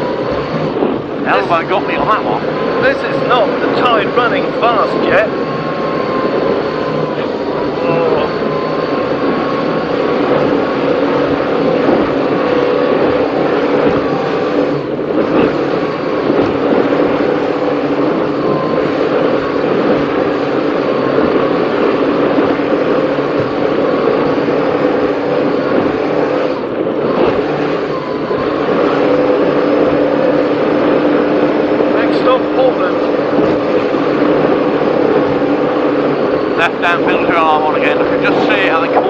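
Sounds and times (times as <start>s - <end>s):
powerboat engines running hard: 0.0s - 39.0s.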